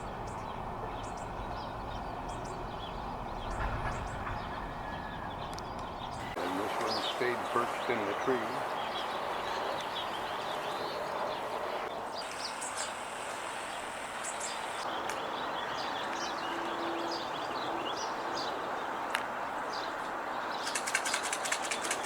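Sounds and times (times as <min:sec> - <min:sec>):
distant traffic hum: 0:00.0 - 0:22.0
small birds chirping: 0:00.0 - 0:22.0.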